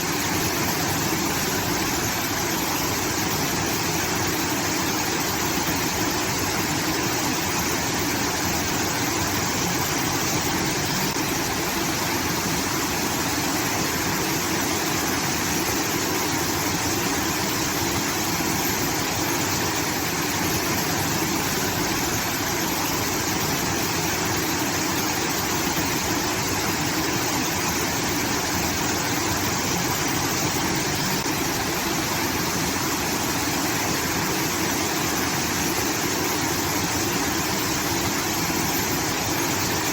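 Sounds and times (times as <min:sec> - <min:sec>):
water pouring from an outlet: 0:00.0 - 0:39.9.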